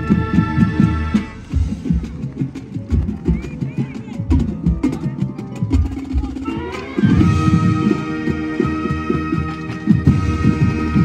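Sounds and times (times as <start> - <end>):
steady low drum beat: 0.0 - 11.0.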